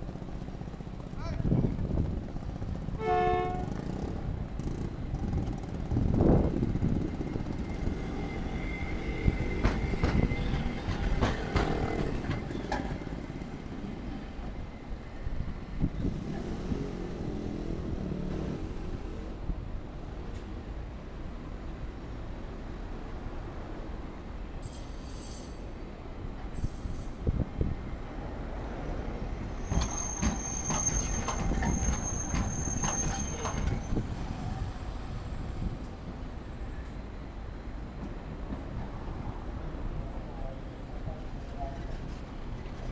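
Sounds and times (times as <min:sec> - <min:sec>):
tram running gear rumble: 0:00.0 - 0:24.4, 0:26.0 - 0:42.9
streetcar wheels squealing on rails: 0:03.0 - 0:19.3, 0:24.4 - 0:42.9.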